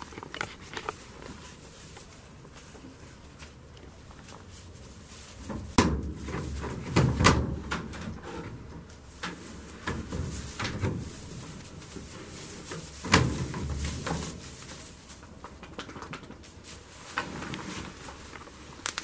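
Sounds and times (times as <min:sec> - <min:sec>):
rustling: 0:00.0 - 0:19.0.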